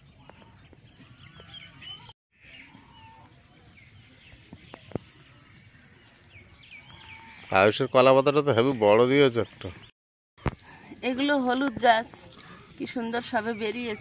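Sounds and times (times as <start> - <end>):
birds chirping and calling: 0.0 - 9.9, 10.5 - 14.0.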